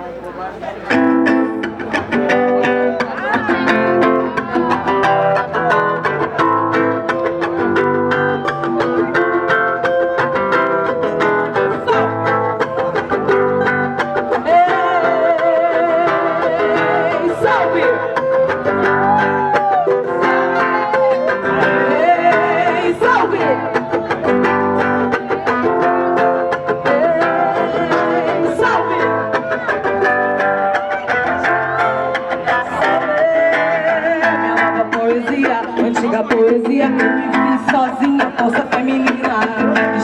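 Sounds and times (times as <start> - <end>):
plucked guitar strings: 0.0 - 40.0.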